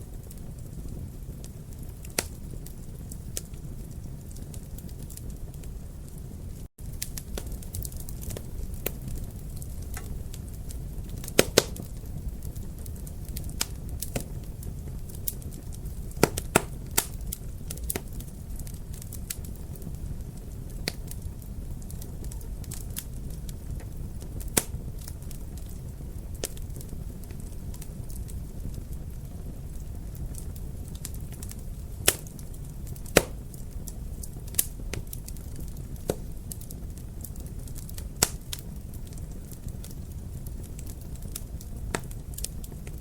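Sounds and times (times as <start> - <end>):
fire crackling: 0.0 - 43.0
sharp pops of fire: 0.1 - 43.0.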